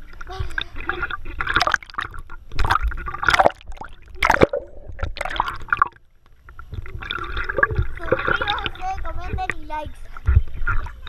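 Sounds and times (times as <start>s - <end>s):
pool water splashing and gurgling: 0.0s - 11.0s.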